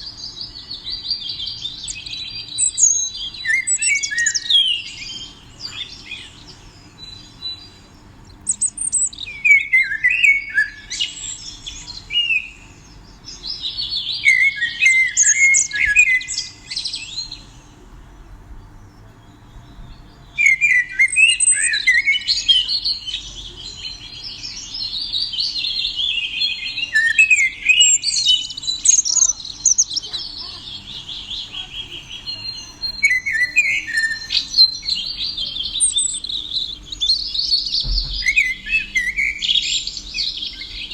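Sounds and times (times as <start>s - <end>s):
songbird chirps and trills: 0.0s - 40.9s.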